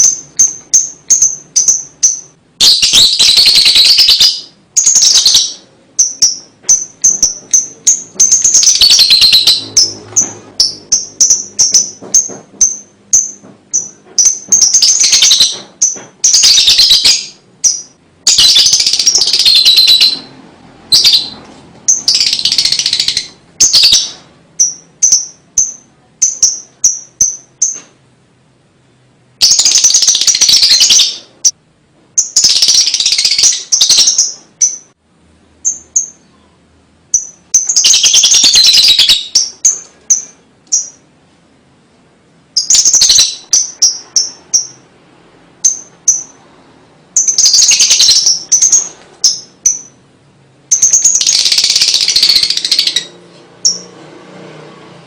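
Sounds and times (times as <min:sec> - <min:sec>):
lovebird chirping and trilling: 0:00.0 - 0:27.9, 0:29.4 - 0:35.0, 0:35.6 - 0:41.1, 0:42.5 - 0:44.9, 0:45.6 - 0:46.4, 0:47.1 - 0:54.0.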